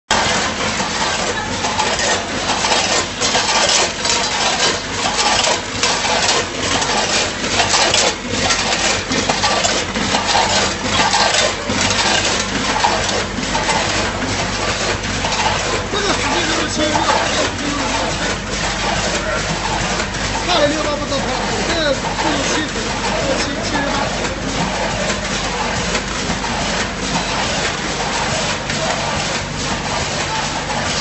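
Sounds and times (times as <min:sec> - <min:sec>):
chips rattling through machine: 0:00.1 - 0:26.9
steady machine hum: 0:00.1 - 0:31.0.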